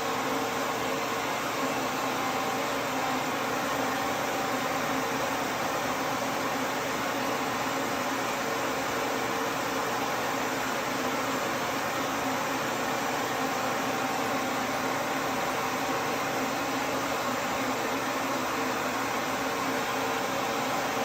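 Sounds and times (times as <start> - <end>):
pet dryer blowing air: 0.0 - 21.0.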